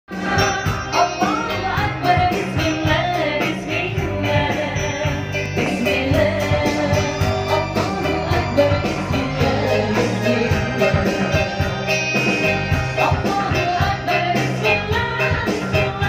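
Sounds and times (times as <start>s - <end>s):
woman singing: 0.1s - 11.6s, 12.9s - 16.0s
band playing through pa: 0.1s - 16.0s.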